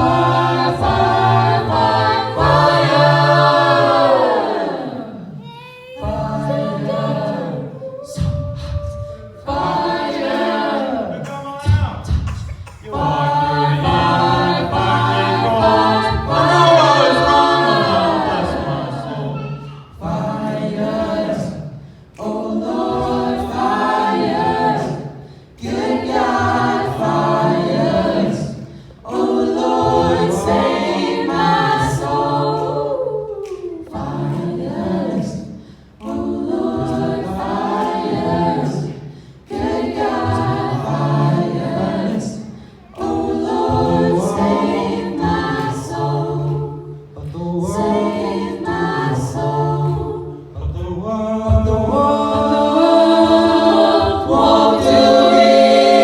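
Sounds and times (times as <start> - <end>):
a cappella group singing in harmony: 0.0 - 56.0.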